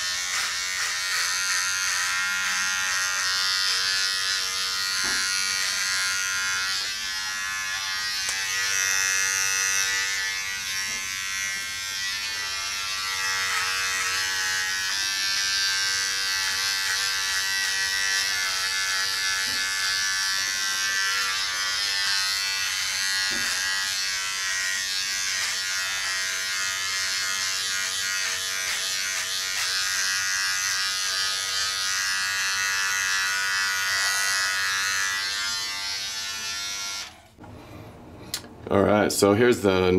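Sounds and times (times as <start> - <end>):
hair trimmer cutting hair: 0.0 - 37.4.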